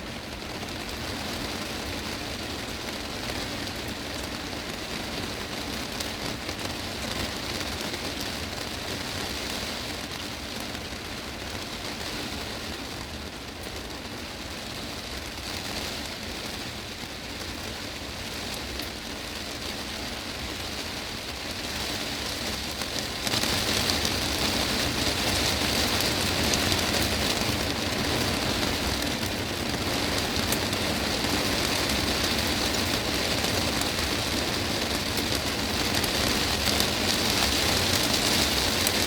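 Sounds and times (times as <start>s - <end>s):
heavy rain on glass roof: 0.0s - 39.0s.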